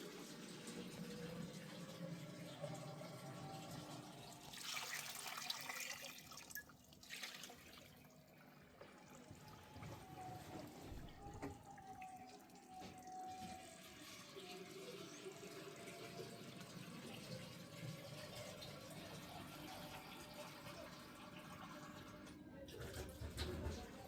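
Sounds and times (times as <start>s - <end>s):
faint running tap water: 0.0s - 24.0s.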